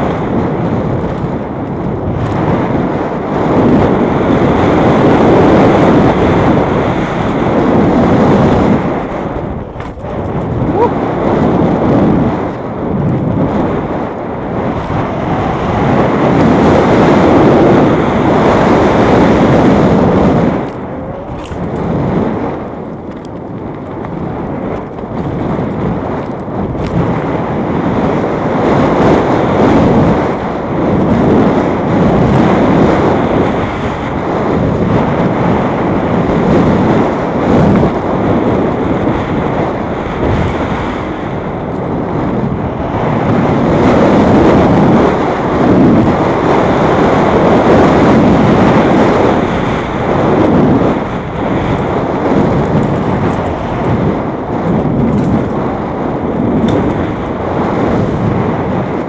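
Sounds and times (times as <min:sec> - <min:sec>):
bike tyres rumbling on dirt: 0:00.0 - 0:59.0
wind rushing on microphone: 0:00.0 - 0:59.0.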